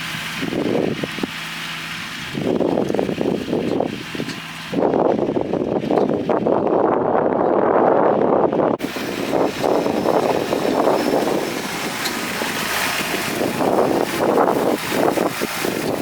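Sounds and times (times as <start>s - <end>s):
diesel tractor running: 0.0s - 16.0s
wind rushing over microphone: 0.0s - 16.0s.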